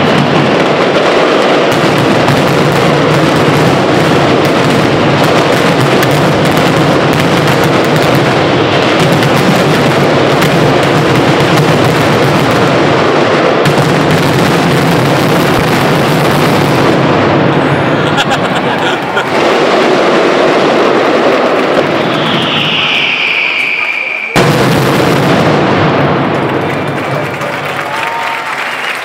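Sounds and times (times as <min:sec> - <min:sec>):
firecrackers detonating continuously: 0:00.0 - 0:29.0.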